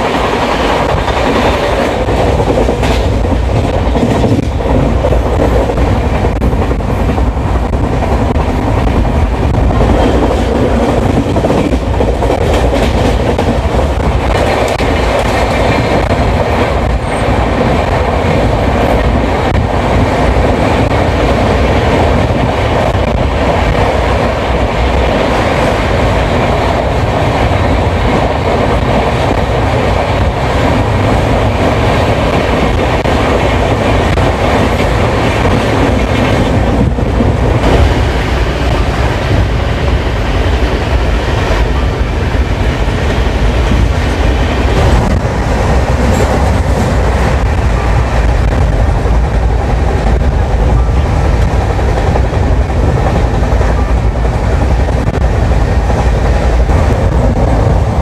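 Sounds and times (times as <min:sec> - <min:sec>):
clickety-clack over rail joints: 0:00.0 - 0:58.0
train wheels rumbling on track: 0:00.0 - 0:58.0.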